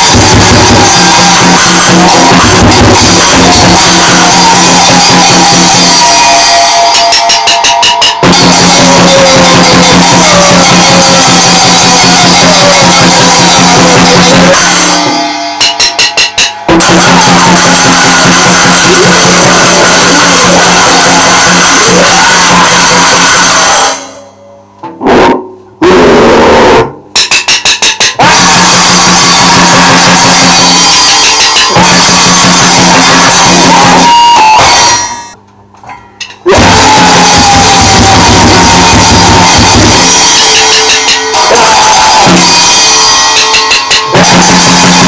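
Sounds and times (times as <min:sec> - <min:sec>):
drum hits: 0:00.0 - 0:23.5, 0:27.2 - 0:35.4, 0:36.2 - 0:45.0
distorted noise wall: 0:00.0 - 0:45.0.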